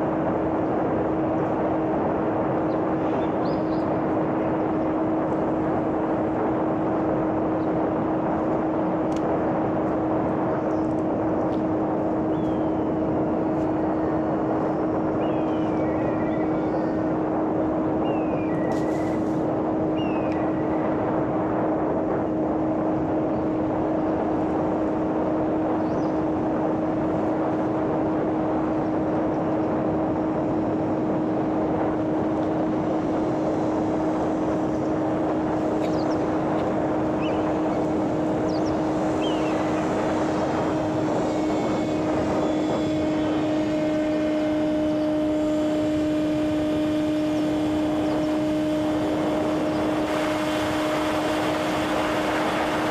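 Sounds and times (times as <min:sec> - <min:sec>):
model airplane motor drone: 0:00.0 - 0:52.9.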